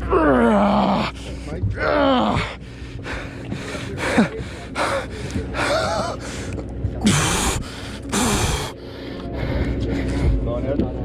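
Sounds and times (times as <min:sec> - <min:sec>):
man panting and gasping: 0:01.0 - 0:10.4.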